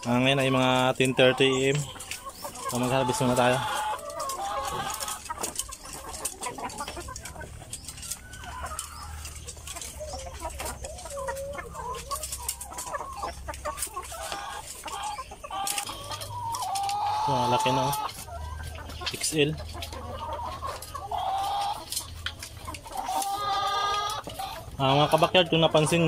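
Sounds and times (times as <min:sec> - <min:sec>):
hens clucking: 0:00.0 - 0:26.0.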